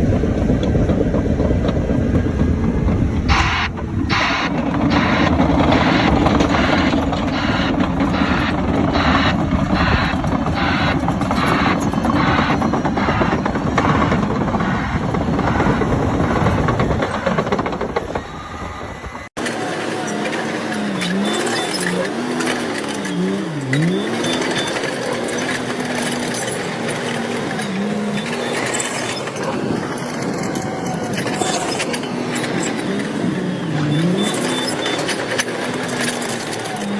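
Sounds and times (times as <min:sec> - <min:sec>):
engine labouring under load: 0:00.0 - 0:36.9
rhythmic machinery clatter: 0:03.3 - 0:36.9.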